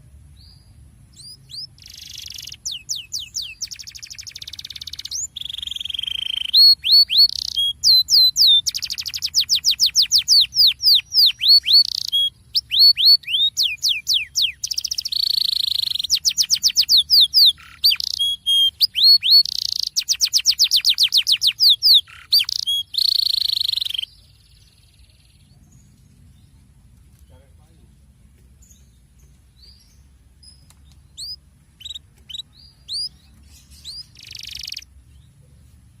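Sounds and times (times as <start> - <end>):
canary singing: 0.4 - 26.6, 29.6 - 35.4.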